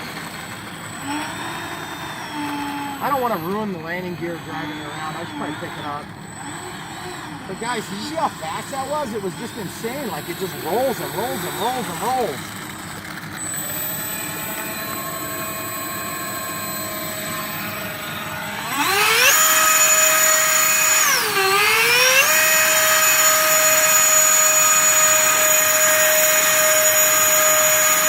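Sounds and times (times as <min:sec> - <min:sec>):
electric fan motors whining: 0:00.0 - 0:28.0.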